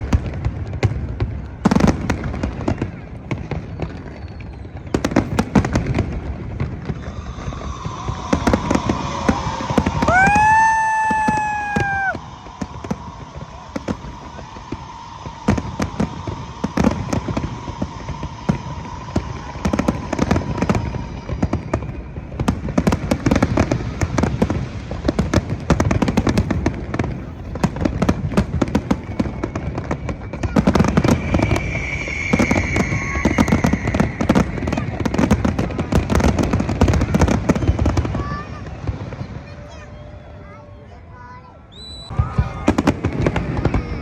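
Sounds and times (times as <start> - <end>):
fireworks bangs and crackling: 0.0 - 44.0
rising whistle-like tone: 3.4 - 24.6, 26.2 - 38.1, 41.7 - 44.0.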